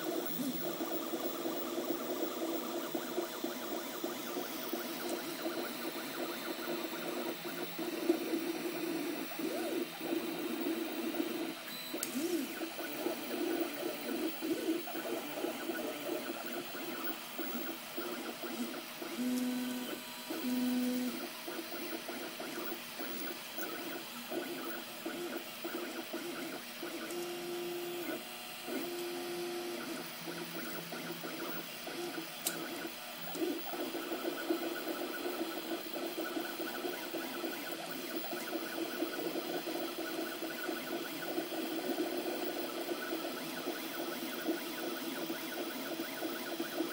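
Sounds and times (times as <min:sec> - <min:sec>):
printer stepper motors whining: 0:00.0 - 0:46.9.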